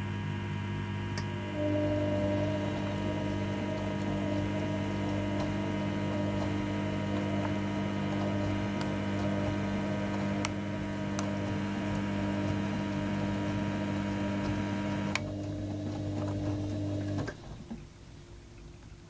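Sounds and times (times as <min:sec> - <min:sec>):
washing machine motor humming: 0:00.0 - 0:18.1.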